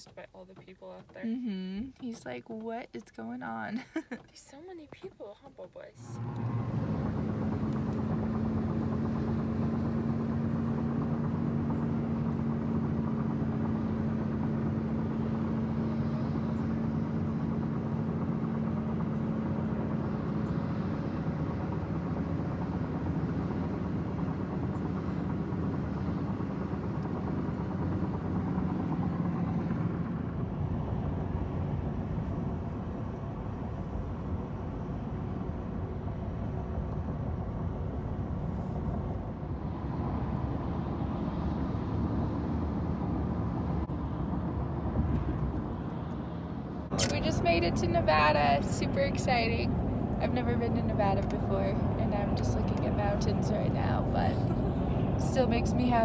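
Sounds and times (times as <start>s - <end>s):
truck road and engine noise: 0.0s - 56.0s.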